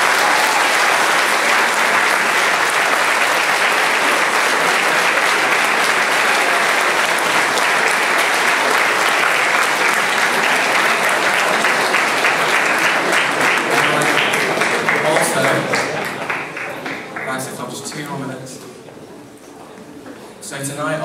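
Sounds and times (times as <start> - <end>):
large audience clapping: 0.0 - 18.4.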